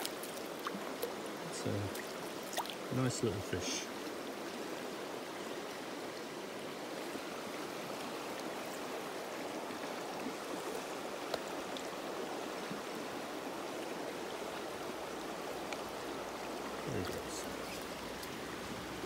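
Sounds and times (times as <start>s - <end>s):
river water over stones: 0.0s - 19.0s.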